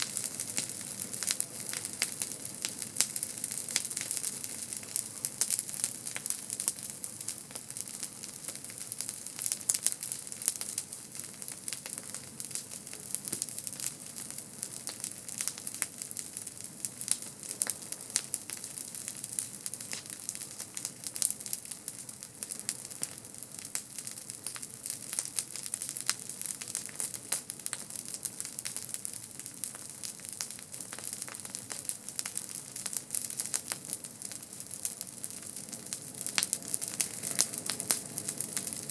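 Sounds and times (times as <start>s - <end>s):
campfire wood crackling: 0.0s - 38.9s
fire hiss: 0.0s - 38.9s.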